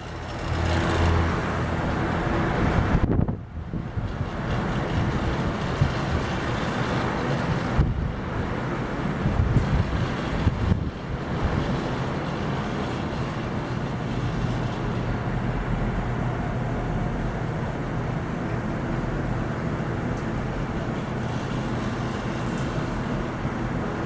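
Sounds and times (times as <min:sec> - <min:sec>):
ceiling fans running: 0:00.0 - 0:24.0.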